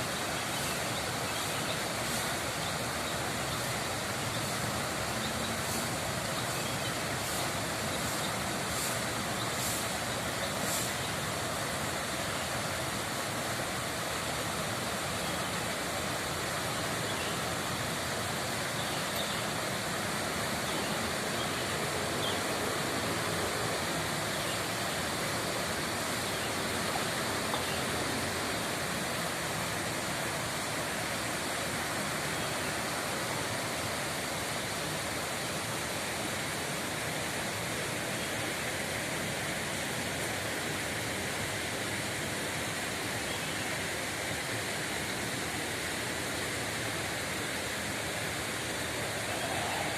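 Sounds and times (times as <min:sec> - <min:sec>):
flowing rippling water: 0:00.0 - 0:49.9.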